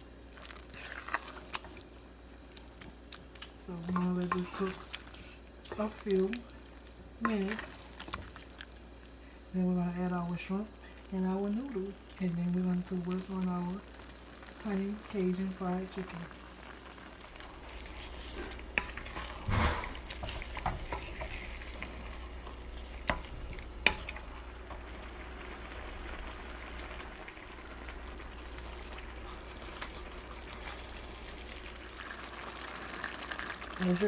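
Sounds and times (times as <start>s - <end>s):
sauce sizzling in a pot: 0.0s - 9.0s, 9.8s - 34.0s.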